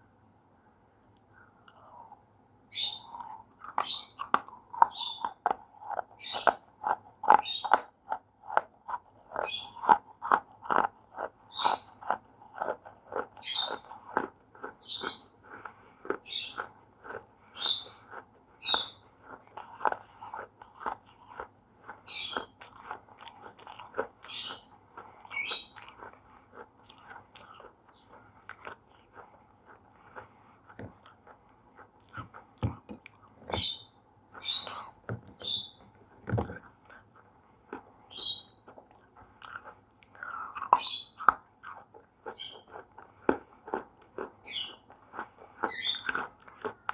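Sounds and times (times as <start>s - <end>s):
person chewing brittle crunches: 1.6s - 46.9s.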